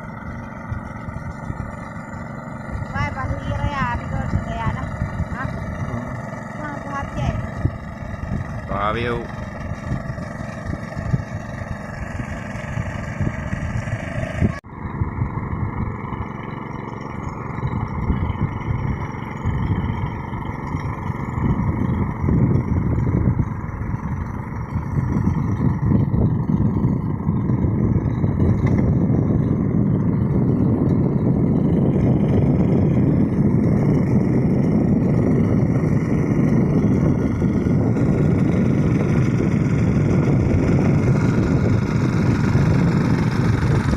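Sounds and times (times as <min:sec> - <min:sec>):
hand tractor engine running: 0:00.0 - 0:43.9.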